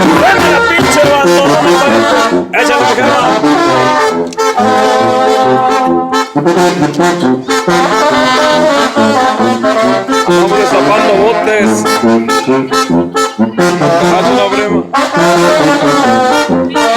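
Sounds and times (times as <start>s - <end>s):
brass band playing: 0.0s - 16.9s.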